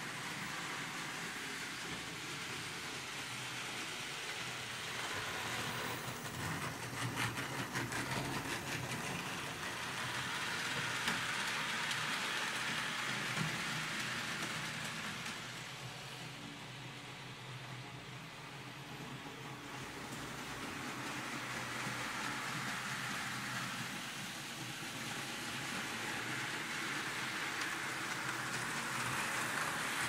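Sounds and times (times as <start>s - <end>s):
model train wheels rattling on track: 0.0s - 16.2s, 19.4s - 30.0s.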